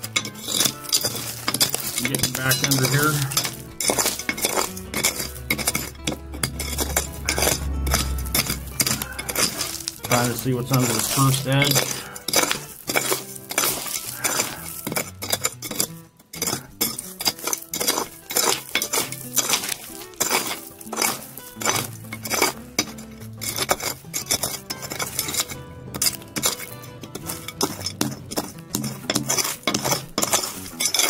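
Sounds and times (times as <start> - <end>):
metal tool scraping gravel: 0.0 - 31.0
stones rattling: 0.0 - 31.0.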